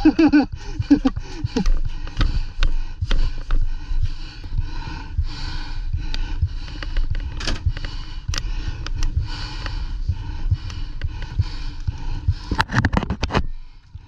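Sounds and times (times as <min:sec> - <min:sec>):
close rhythmic breathing: 0:00.0 - 0:14.0
low thumps and gear rustle: 0:00.1 - 0:14.0
sharp clicks: 0:00.7 - 0:14.0.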